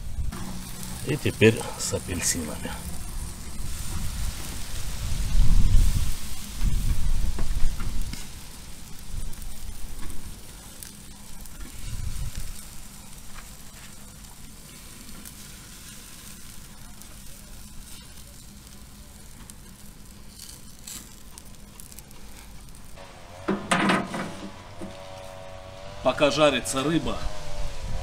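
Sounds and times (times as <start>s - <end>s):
fish sizzling on a grill: 0.0s - 28.0s.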